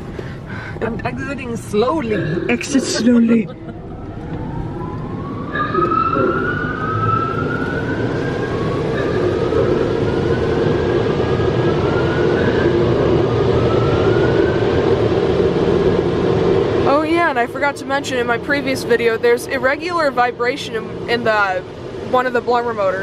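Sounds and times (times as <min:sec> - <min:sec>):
car wash blowers rushing air: 0:00.0 - 0:23.0
blower motors whining: 0:02.6 - 0:22.7.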